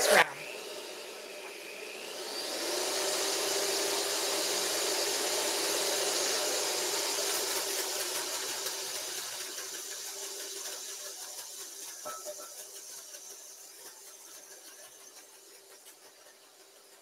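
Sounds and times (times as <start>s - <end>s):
electric hand mixer whirring: 0.0s - 16.9s.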